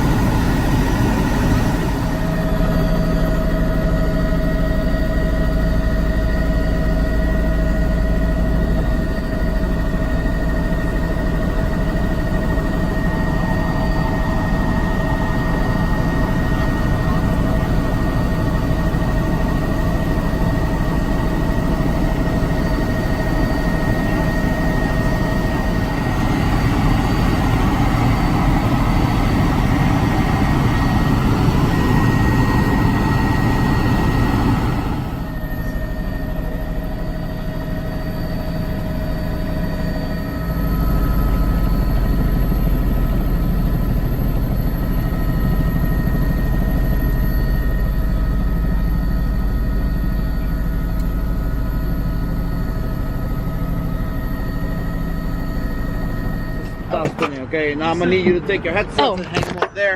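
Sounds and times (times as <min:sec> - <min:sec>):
helicopter engine and rotors: 0:00.0 - 0:59.9.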